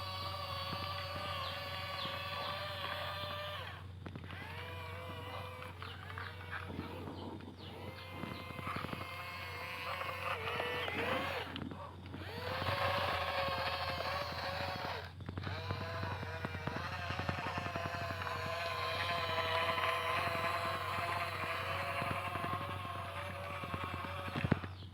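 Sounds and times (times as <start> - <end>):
small electric motor whining: 0.0 - 24.9.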